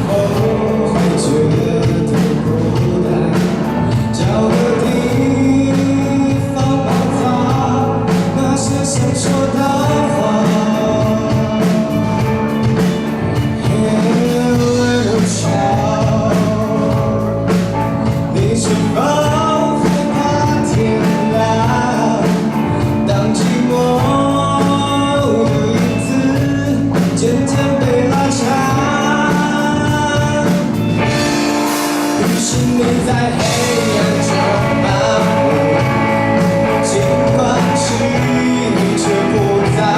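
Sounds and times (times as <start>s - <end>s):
person singing lead vocal: 0.0s - 39.9s
rock band playing live: 0.0s - 39.9s.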